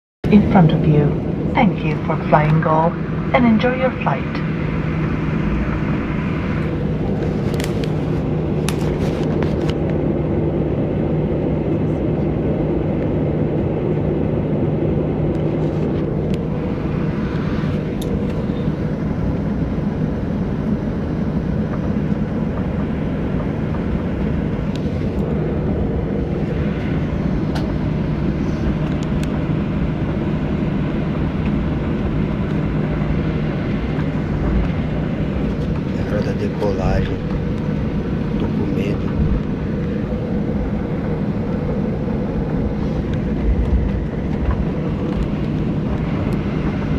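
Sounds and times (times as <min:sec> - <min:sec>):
airliner cabin drone: 0:00.2 - 0:46.9.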